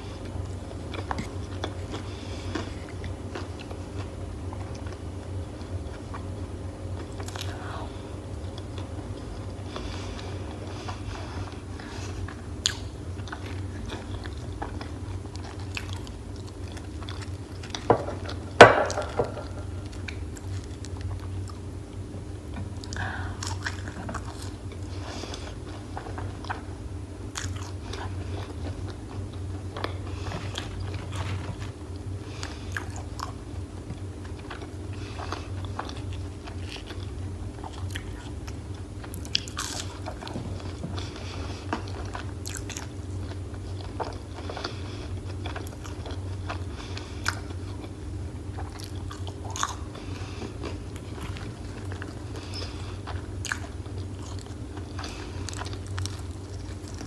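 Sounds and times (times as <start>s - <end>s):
chewing crispy fried food: 0.0s - 57.0s
steady low hum: 0.0s - 57.0s.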